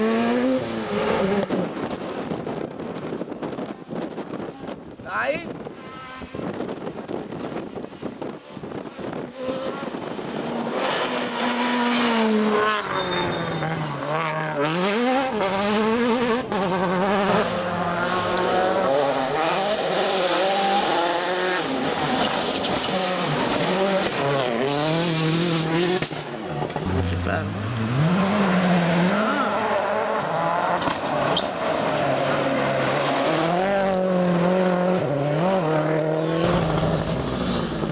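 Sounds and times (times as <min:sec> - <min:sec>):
rally car engine revving: 0:00.0 - 0:02.0, 0:08.8 - 0:37.9.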